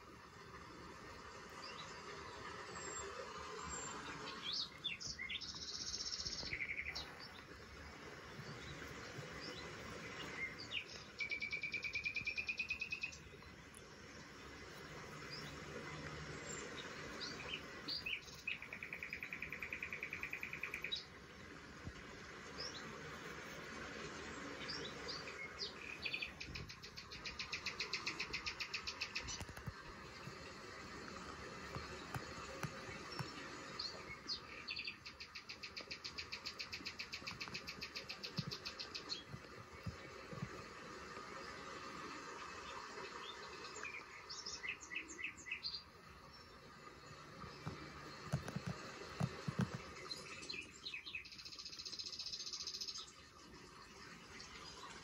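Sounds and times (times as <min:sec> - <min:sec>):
songbird chirping and trilling: 0:01.5 - 0:07.8, 0:08.4 - 0:21.2, 0:24.4 - 0:30.4, 0:31.7 - 0:40.2, 0:42.4 - 0:55.0.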